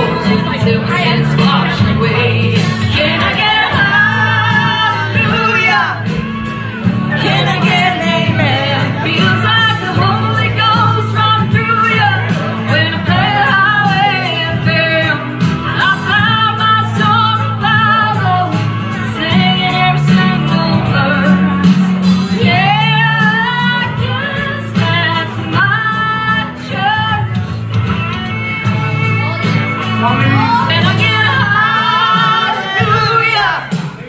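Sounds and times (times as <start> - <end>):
woman singing into microphone: 0.0 - 29.2, 29.8 - 33.8
instrumental backing music: 0.0 - 34.0.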